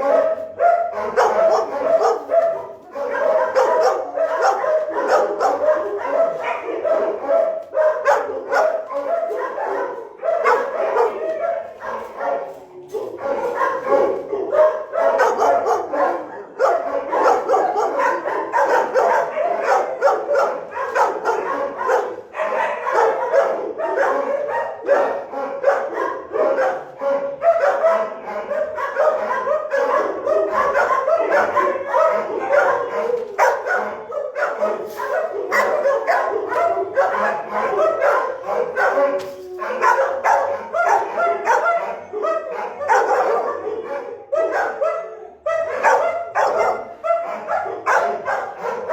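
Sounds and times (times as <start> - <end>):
many dogs barking: 0.0 - 48.9.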